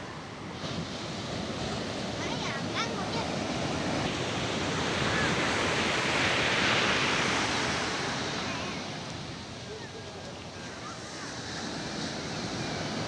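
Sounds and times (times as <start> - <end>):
sea waves breaking: 0.0 - 13.0.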